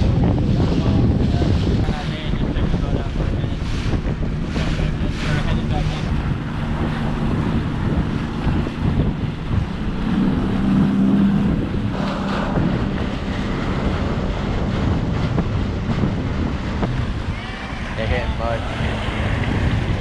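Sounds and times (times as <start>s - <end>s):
boat motor humming: 0.0s - 20.0s
water rushing past hull: 0.0s - 20.0s
wind buffeting microphone: 0.0s - 20.0s.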